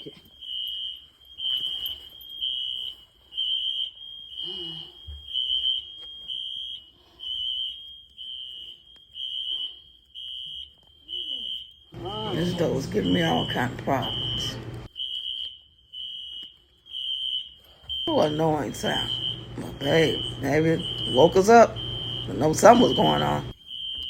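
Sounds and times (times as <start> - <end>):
fire alarm beeping: 0.0 - 24.0.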